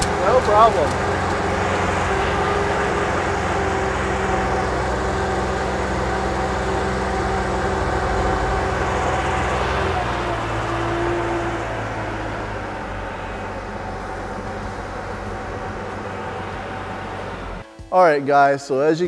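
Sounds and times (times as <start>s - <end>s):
skid steer engine running: 0.0s - 17.6s.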